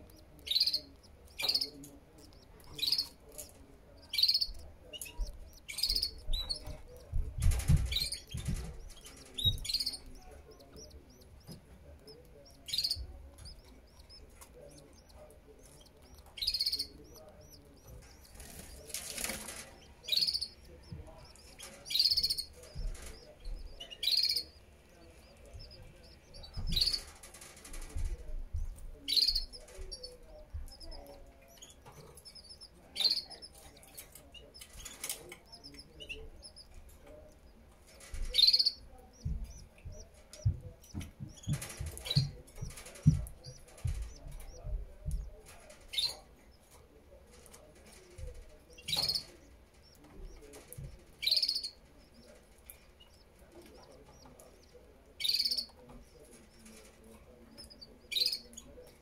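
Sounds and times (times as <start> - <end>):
nestlings high chirps: 0.0 - 59.0.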